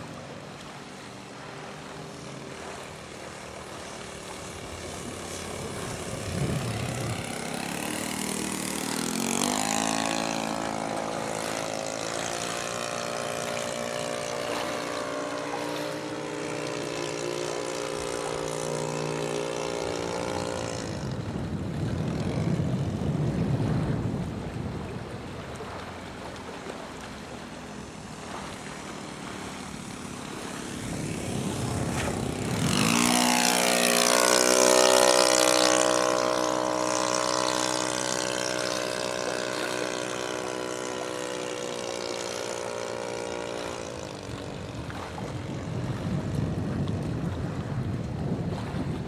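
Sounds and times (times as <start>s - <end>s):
model plane engine buzzing: 0.0s - 23.1s, 27.2s - 46.1s.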